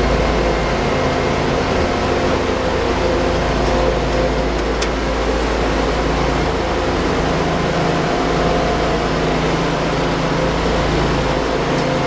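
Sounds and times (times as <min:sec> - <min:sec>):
grain auger running: 0:00.0 - 0:12.0
truck engine running: 0:00.0 - 0:12.0.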